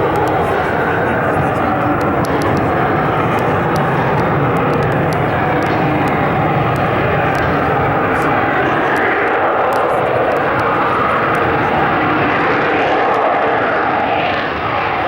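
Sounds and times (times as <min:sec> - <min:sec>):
high jet whine: 0:00.0 - 0:15.0
jet engine roar: 0:00.0 - 0:15.0.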